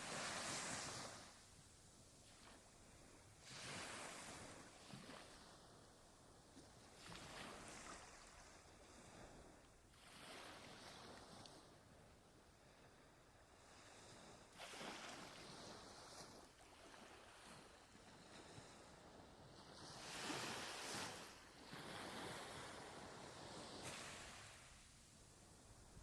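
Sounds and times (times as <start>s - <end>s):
ocean waves washing on shore: 0.0s - 1.4s, 2.0s - 26.0s.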